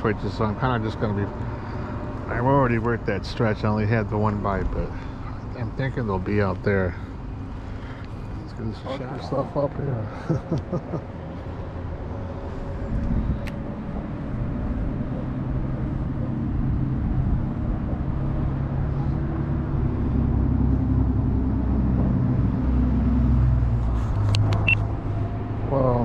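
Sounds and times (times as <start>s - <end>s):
traffic rumble on a bridge: 0.0s - 26.0s.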